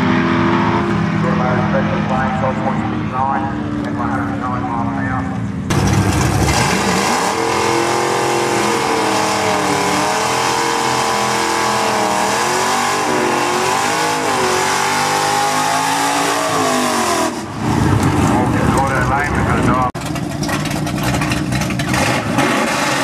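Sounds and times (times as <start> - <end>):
drag car engine revving: 0.0 - 23.0.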